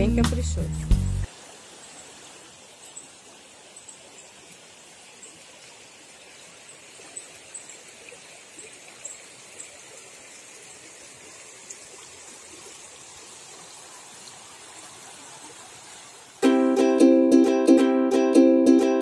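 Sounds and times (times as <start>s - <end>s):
stream flowing over stones: 1.2s - 16.5s.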